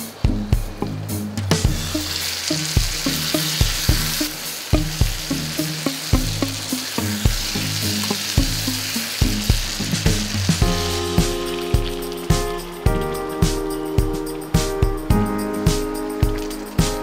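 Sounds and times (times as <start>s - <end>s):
background music with beat: 0.0s - 17.0s
curry sizzling in a pan: 1.6s - 17.0s.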